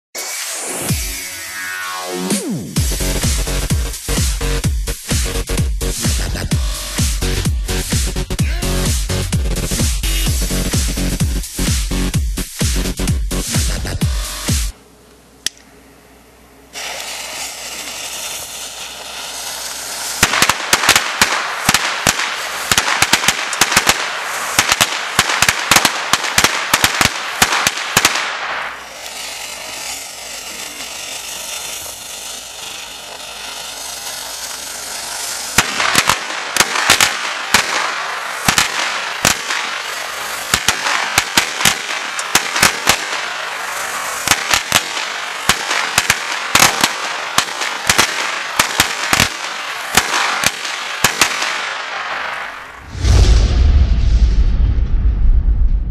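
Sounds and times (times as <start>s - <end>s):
firecracker fuse hissing: 0.1s - 14.8s, 16.6s - 53.3s
firecrackers banging: 0.2s - 14.8s, 16.6s - 55.9s.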